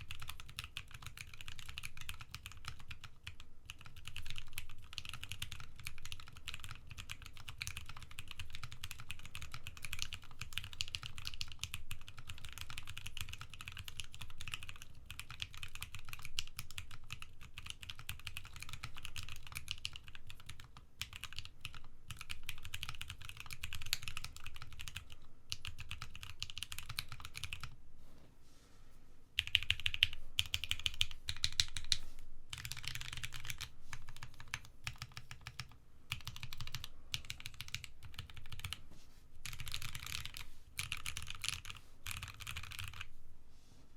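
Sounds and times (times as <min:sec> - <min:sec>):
typing on mechanical keyboard: 0:00.0 - 0:27.8, 0:29.4 - 0:38.8, 0:39.4 - 0:43.1.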